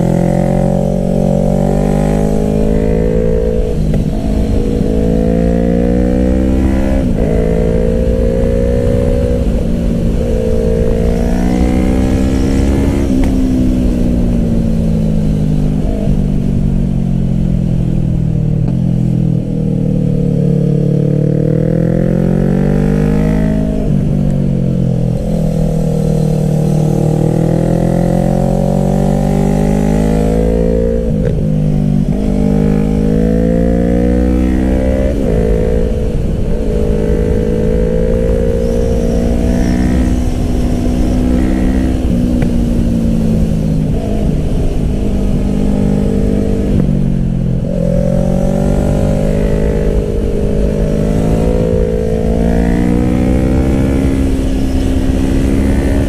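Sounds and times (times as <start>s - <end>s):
low wind rumble: 0.0s - 56.0s
motorcycle engine revving: 0.0s - 56.0s.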